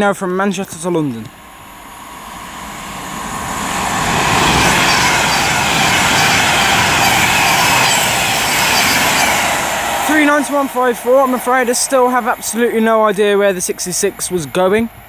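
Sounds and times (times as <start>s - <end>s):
electric train passing at speed: 1.2s - 15.0s.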